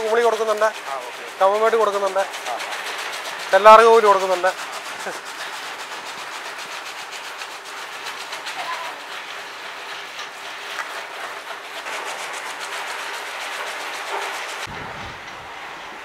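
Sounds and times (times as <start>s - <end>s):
machine clattering: 0.0s - 14.7s
steady hiss: 0.0s - 16.0s.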